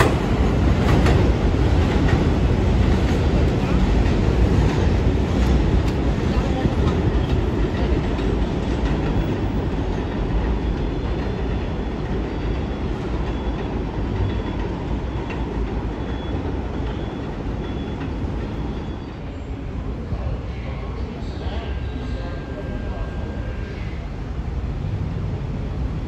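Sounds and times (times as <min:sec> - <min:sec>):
subway train rumbling: 0:00.0 - 0:26.0.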